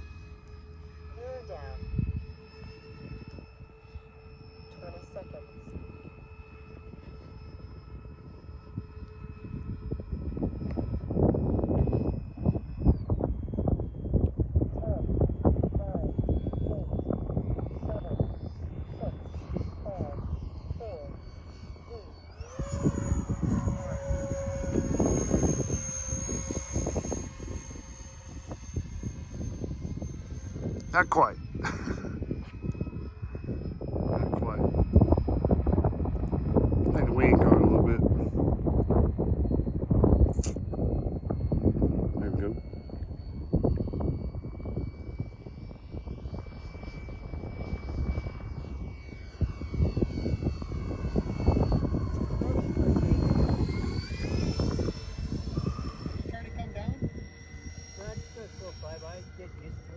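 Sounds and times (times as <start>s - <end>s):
model jet motor whining: 0.0s - 59.9s
wind buffeting microphone: 0.0s - 59.9s.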